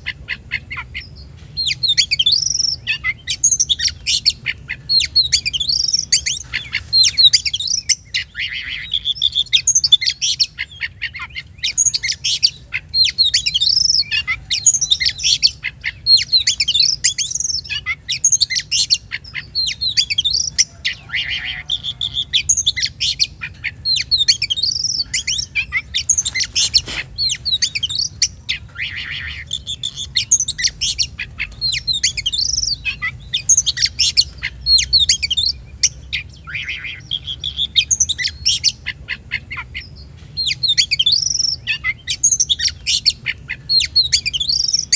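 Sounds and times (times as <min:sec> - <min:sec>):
bird singing whistles and chirps: 0:00.0 - 0:44.9.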